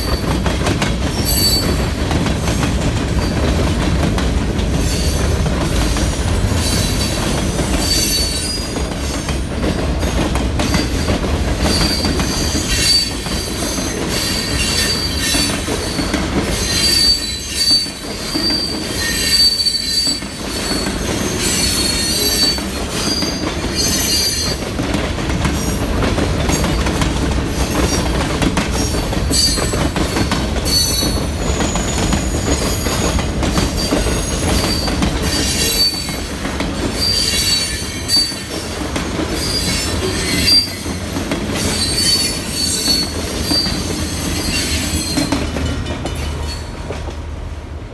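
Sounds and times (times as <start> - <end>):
train wheels squealing: 0.0 - 2.6, 3.2 - 3.5, 4.8 - 24.7, 28.8 - 46.8
freight train cars rumbling past: 0.0 - 47.9.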